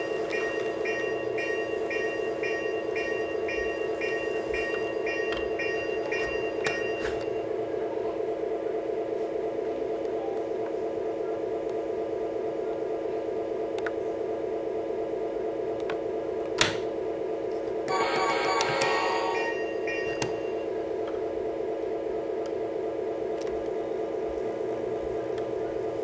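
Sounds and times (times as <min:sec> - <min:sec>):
electric locomotive hum from speaker: 0:00.0 - 0:26.0.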